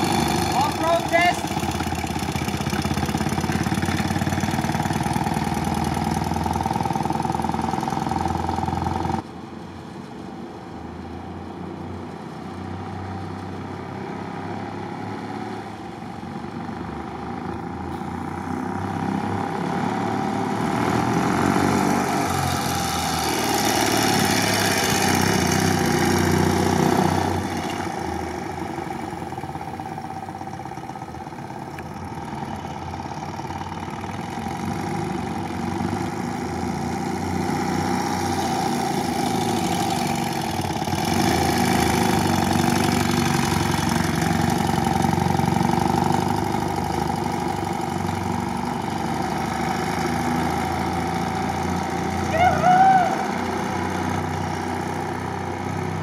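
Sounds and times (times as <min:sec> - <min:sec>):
motorcycle engine running slowly: 0:00.0 - 0:09.3, 0:15.7 - 0:56.0.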